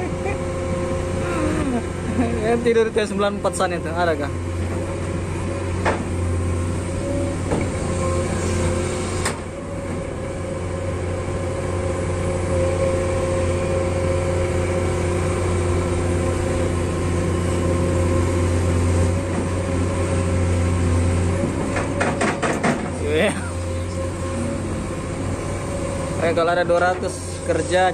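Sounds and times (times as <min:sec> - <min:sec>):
heavy diesel engines humming: 0:00.0 - 0:27.9.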